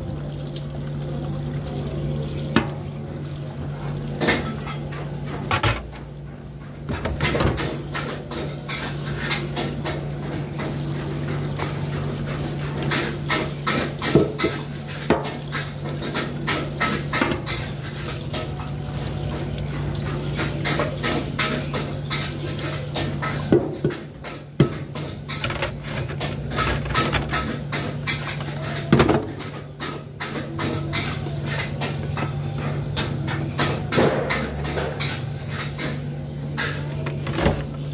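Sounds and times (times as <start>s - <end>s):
plates scrubbed and rinsed: 3.8s - 37.9s
dishes clattering: 4.2s - 18.8s, 20.0s - 37.9s.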